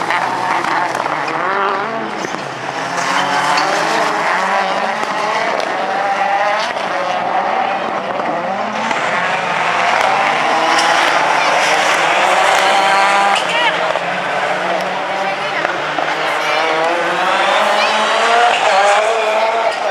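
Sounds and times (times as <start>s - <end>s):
racing car engines revving: 0.0s - 19.9s.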